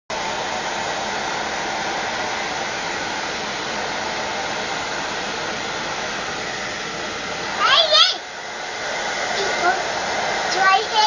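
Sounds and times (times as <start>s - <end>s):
hair dryer blowing: 0.1s - 11.0s.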